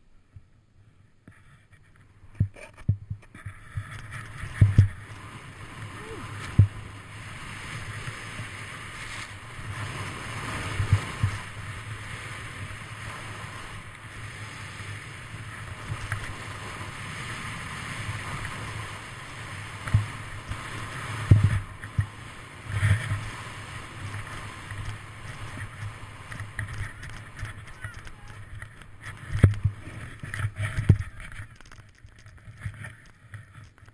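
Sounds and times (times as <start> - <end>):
snowboard thumping on bumps: 2.4 - 14.2, 15.2 - 33.9
snowboard scraping over snow: 3.3 - 33.9.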